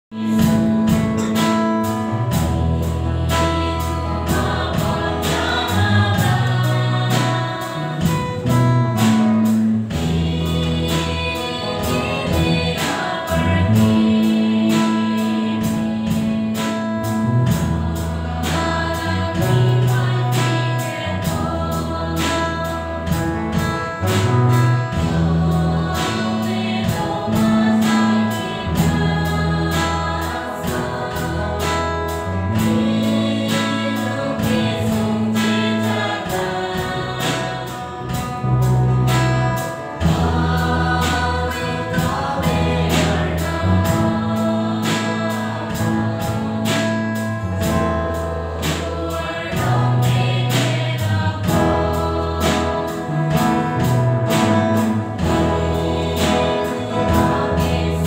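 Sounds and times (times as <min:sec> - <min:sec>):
guitar: 0:00.1 - 0:58.0
drum kit beat: 0:00.2 - 0:58.0
low bass notes: 0:00.3 - 0:58.0
choir singing: 0:02.3 - 0:08.7, 0:09.4 - 0:58.0.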